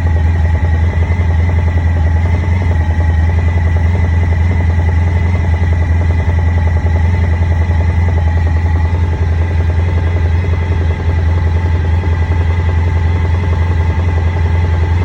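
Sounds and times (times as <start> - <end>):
engine knocking: 0.0 - 15.0
motorcycle engine idling: 0.0 - 15.0.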